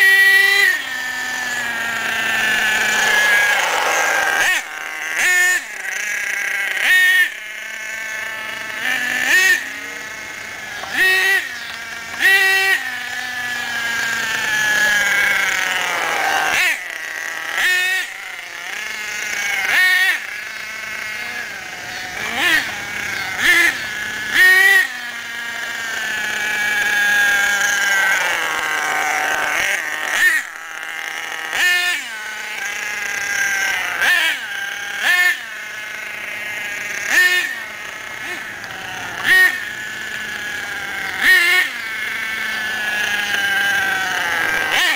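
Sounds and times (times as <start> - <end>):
model truck engine buzzing: 0.0 - 44.9
sharp throttle blips: 0.0 - 44.9.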